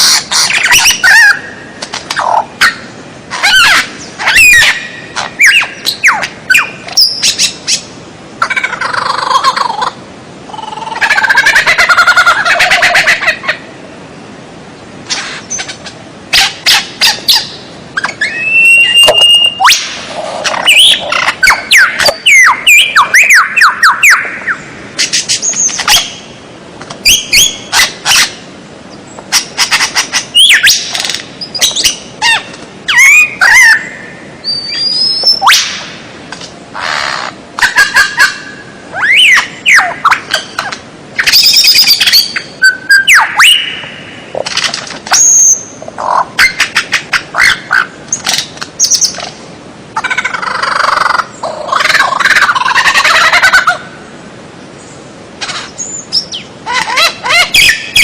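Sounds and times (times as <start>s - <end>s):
songbird singing: 0.0s - 36.1s, 36.8s - 58.0s.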